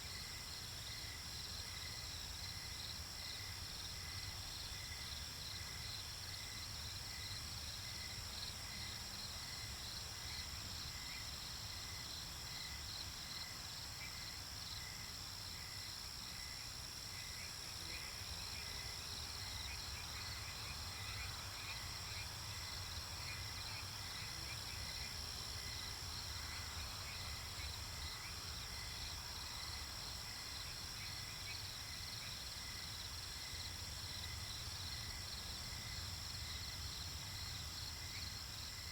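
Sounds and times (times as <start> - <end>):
crickets and insects chirping: 0.0 - 38.9.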